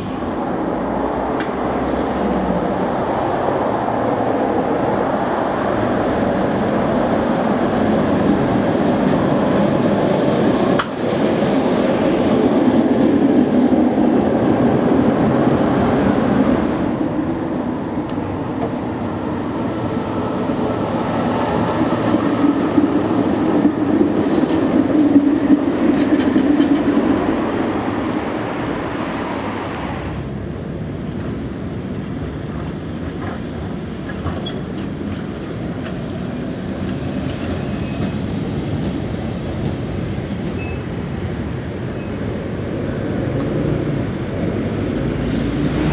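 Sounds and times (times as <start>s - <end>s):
tram wheels rumbling on rails: 0.0s - 45.9s.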